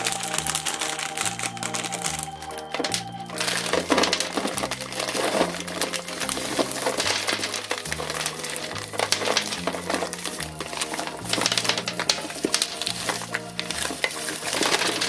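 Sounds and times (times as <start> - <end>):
clicks and crinkles of handling: 0.0 - 15.0.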